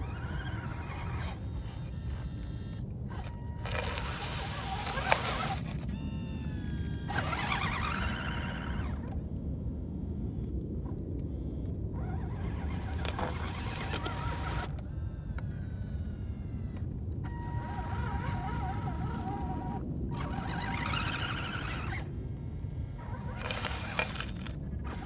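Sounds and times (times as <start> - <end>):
constant low rumble: 0.0 - 25.0
electric motor and gears whining: 0.0 - 25.0.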